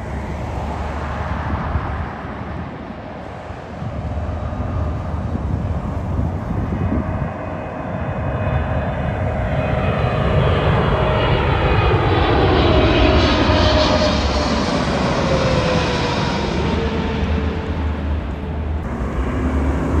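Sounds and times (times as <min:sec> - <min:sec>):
jet engines rumble and whine: 0:00.0 - 0:20.0.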